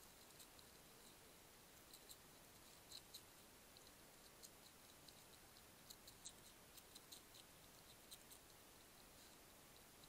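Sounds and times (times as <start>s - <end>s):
hedgehog crunching dry biscuits: 0.0s - 10.0s
steady hiss: 0.0s - 10.0s.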